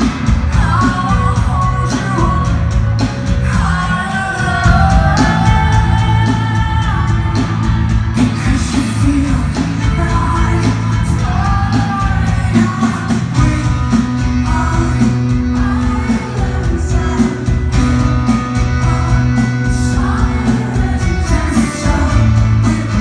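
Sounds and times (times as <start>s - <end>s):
person singing: 0.0s - 23.0s
rock band playing: 0.0s - 23.0s.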